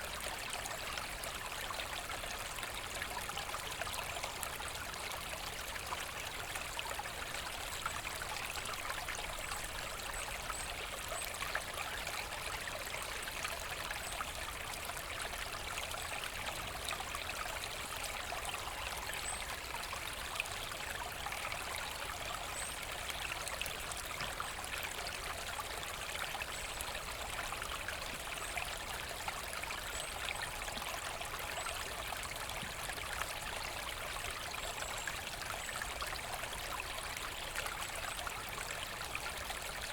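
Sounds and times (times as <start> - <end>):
brook running over stones: 0.0 - 39.9.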